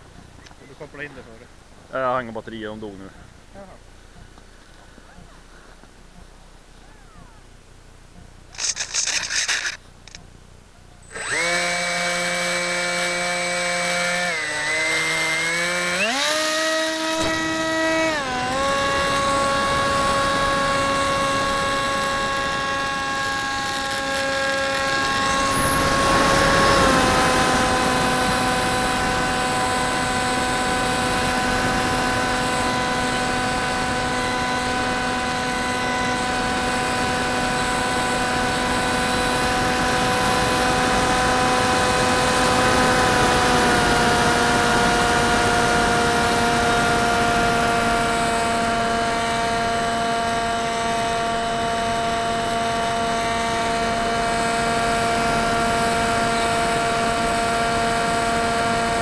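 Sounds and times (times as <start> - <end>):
electric motor and propeller whine: 0.0 - 59.0.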